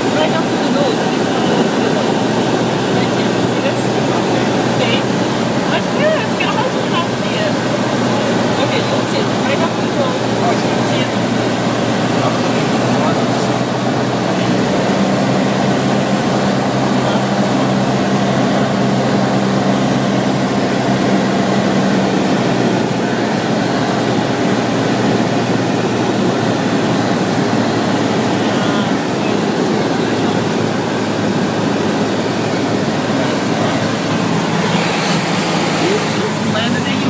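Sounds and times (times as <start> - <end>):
propeller aircraft engine drone: 0.0 - 37.0.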